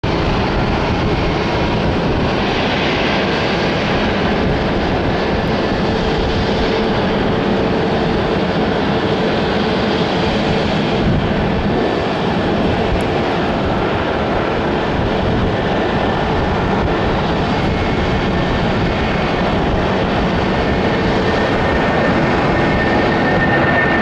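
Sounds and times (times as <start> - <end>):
faint jet engine whine: 0.0 - 24.0
jet engines roaring: 0.0 - 24.0.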